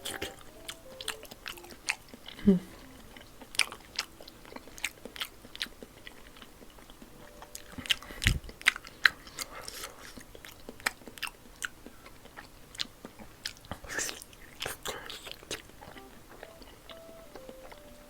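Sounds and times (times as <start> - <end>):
person chewing and biting food: 0.0 - 18.0.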